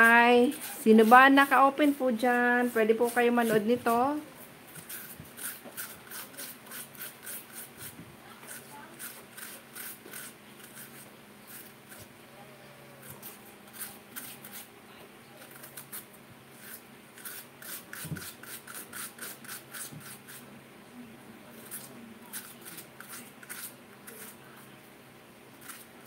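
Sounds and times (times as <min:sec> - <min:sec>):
scraping potato from skin: 0:00.0 - 0:02.0, 0:02.9 - 0:12.1, 0:13.0 - 0:14.7, 0:15.4 - 0:20.5, 0:21.6 - 0:24.8, 0:25.5 - 0:26.0.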